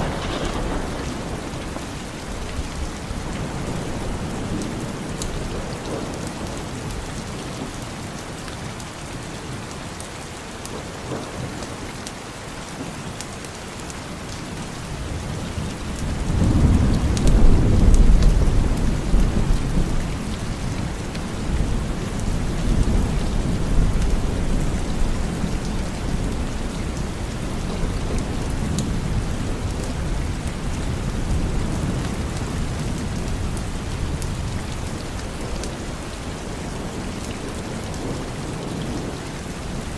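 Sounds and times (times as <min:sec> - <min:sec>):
thunder rumbling: 0:00.0 - 0:07.1, 0:15.0 - 0:39.9
rain falling: 0:00.0 - 0:39.9.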